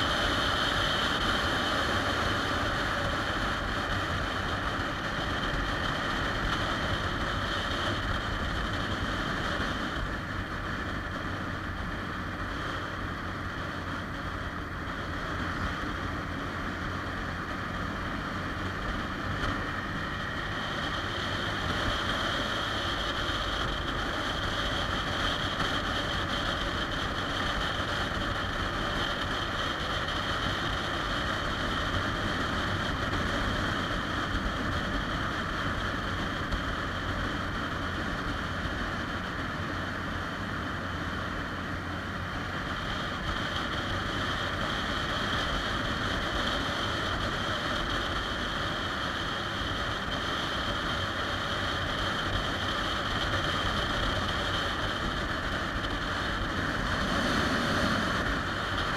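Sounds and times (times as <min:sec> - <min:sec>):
motorcycle engine drone: 0:00.0 - 0:58.9
wind rush on microphone: 0:00.0 - 0:58.9.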